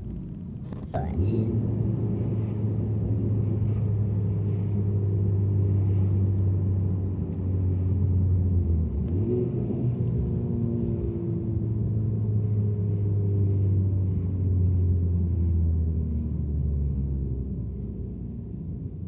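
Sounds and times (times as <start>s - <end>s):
car engine drone from inside cabin: 0.0s - 19.0s.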